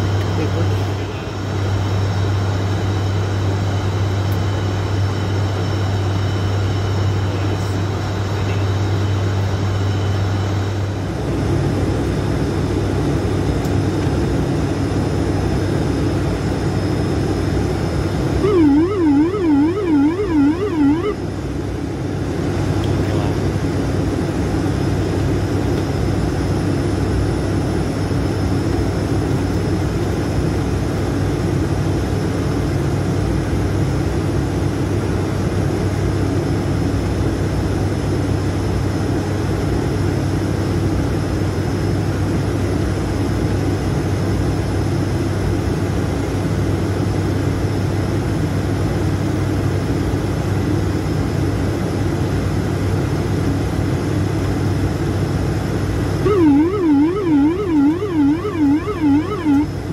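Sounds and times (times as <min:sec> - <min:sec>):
propeller and engine drone: 0:00.0 - 0:59.9.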